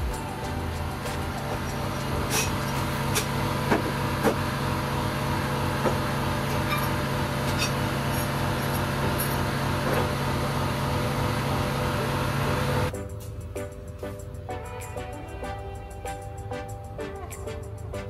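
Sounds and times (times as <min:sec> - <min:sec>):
machine hum: 0:00.0 - 0:14.5.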